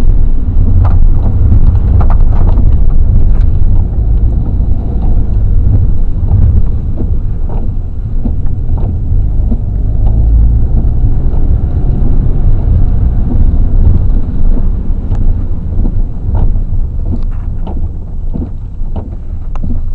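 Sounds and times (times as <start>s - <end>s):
wind buffeting microphone: 0.0s - 19.9s
sharp ticks of rain: 0.1s - 19.8s.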